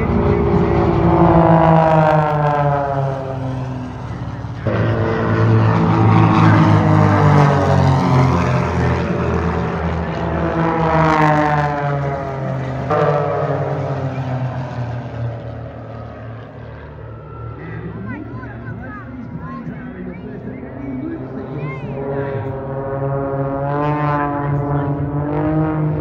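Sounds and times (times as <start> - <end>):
propeller aircraft droning past: 0.0 - 26.0.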